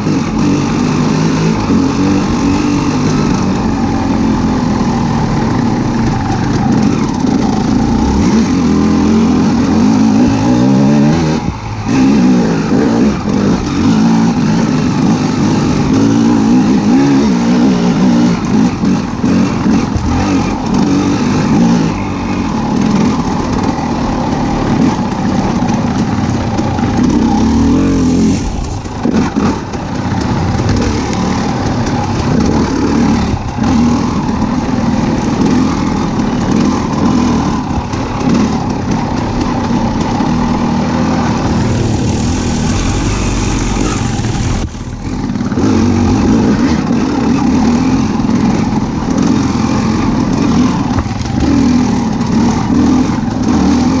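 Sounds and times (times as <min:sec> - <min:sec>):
vehicle engine revving: 0:00.0 - 0:54.0.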